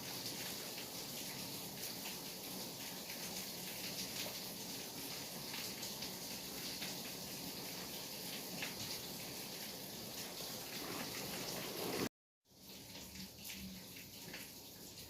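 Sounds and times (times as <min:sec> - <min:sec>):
steady rainfall: 0:00.0 - 0:12.1.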